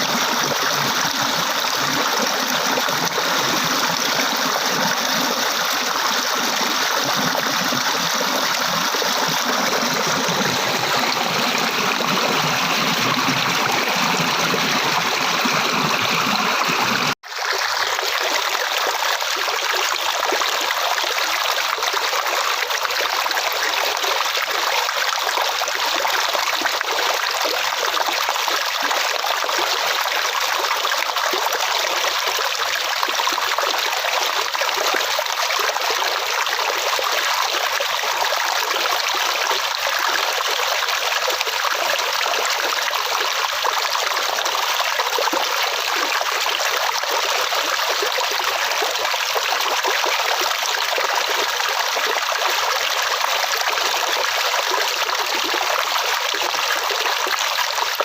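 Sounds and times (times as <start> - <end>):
water flowing over stones: 0.0 - 58.0.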